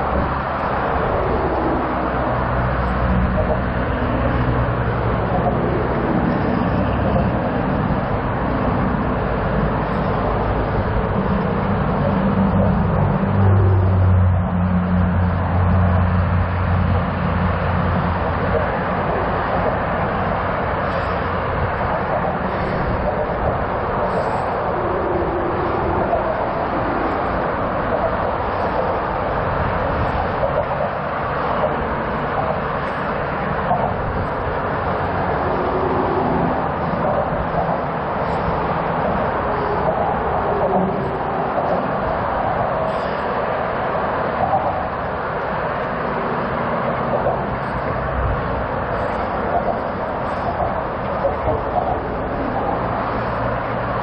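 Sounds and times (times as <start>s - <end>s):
low engine hum: 0.0s - 54.0s
rumble of motorway traffic: 0.0s - 54.0s
tyre and road noise: 0.0s - 54.0s
wind over microphone: 0.0s - 54.0s.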